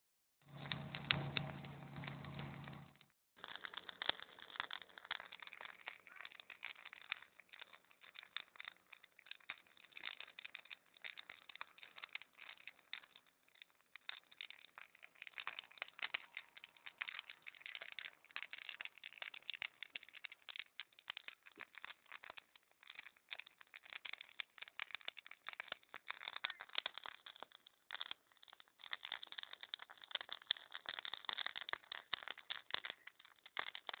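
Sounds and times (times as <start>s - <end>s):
bonfire crackling and popping: 0.4s - 34.0s.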